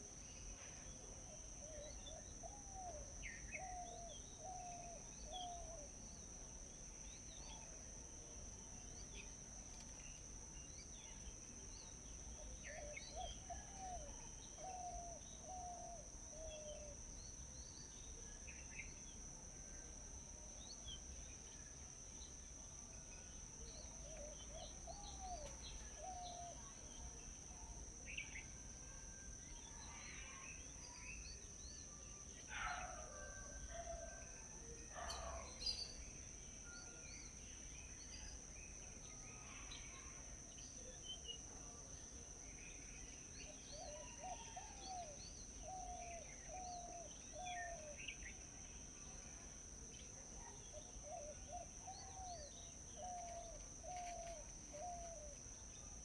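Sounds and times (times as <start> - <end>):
wild birds calling and chirping: 0.4 - 6.2, 8.9 - 19.0, 23.3 - 41.5, 42.6 - 56.0.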